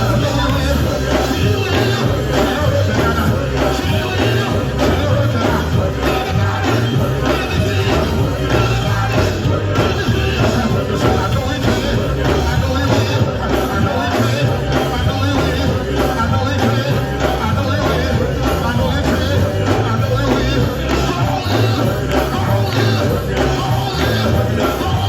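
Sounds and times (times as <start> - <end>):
drum beat: 0.0 - 25.0
heavy bass line: 0.0 - 25.0
live band playing: 0.0 - 25.0.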